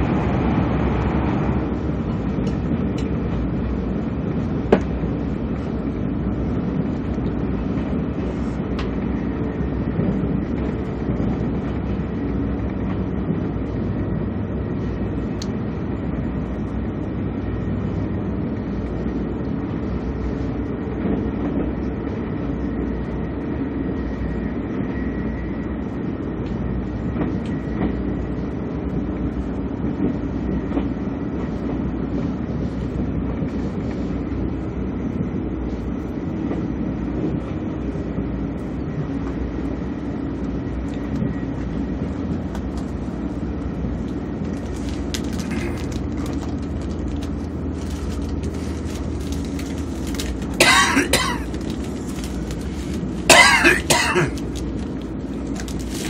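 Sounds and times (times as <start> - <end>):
train wheels and air rumbling: 0.0 - 56.0.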